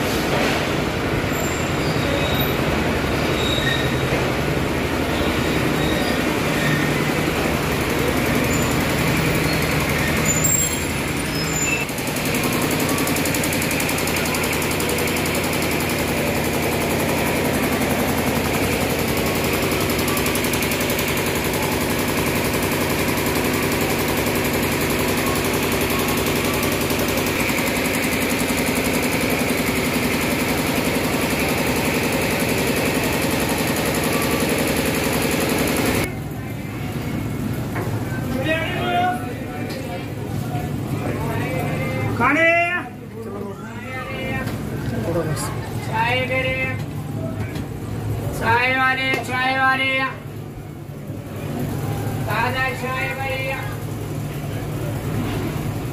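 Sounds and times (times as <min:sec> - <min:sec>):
diesel train engine idling: 0:00.0 - 0:55.9.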